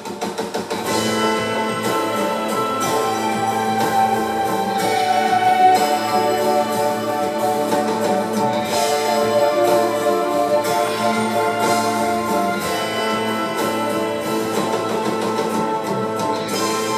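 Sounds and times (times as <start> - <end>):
instrumental score music: 0.0 - 16.9.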